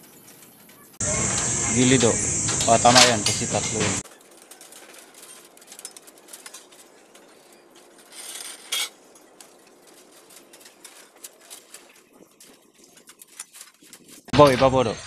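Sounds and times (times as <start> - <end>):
metal rasp and clank: 1.1 - 14.7
metallic clinks of steel rebar: 1.3 - 14.1.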